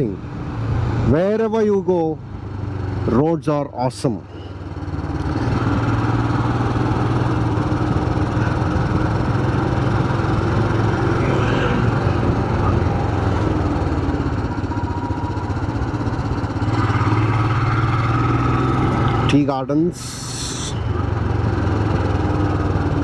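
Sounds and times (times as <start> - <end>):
motorcycle engine running: 4.3 - 23.0.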